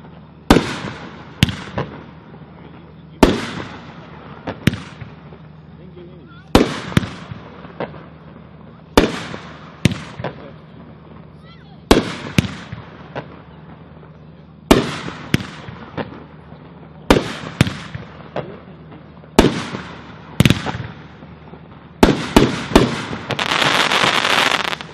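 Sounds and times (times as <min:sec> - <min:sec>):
firework bangs: 0:00.0 - 0:24.9
lighter firework reports: 0:00.0 - 0:24.9.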